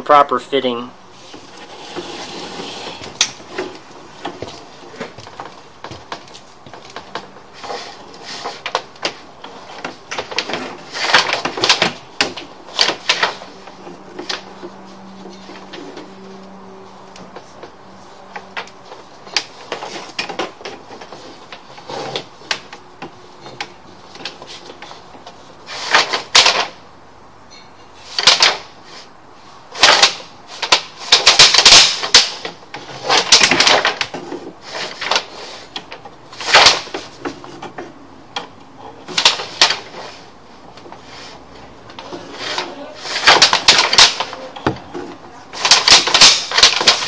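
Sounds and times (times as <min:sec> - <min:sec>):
cable clattering and scraping: 0:01.2 - 0:26.9, 0:27.5 - 0:47.0.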